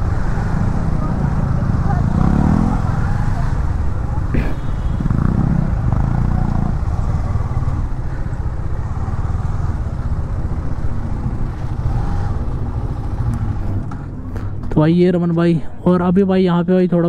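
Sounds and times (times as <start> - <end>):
other motorcycle engines: 0.0 - 17.0.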